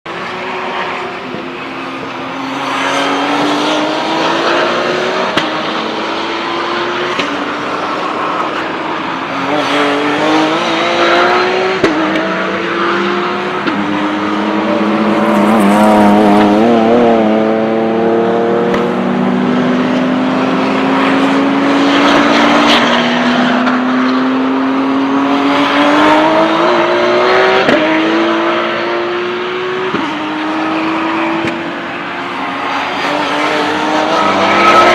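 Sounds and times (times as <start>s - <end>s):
race car engines accelerating: 0.1s - 34.9s
race cars passing: 0.1s - 34.9s.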